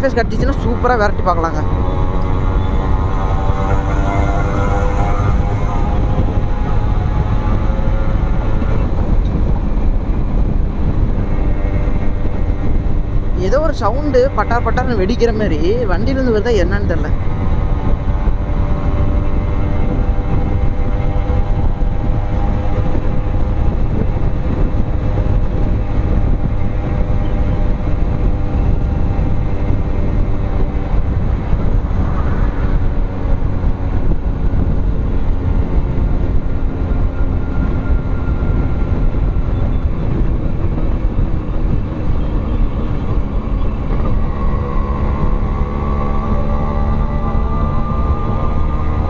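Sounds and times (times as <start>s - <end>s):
wind and road rumble: 0.0s - 49.0s.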